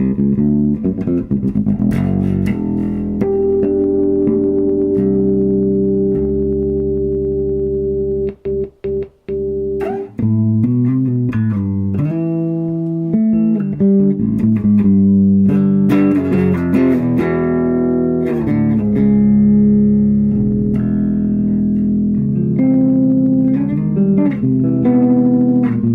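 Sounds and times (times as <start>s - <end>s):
electric bass guitar: 0.0s - 25.9s.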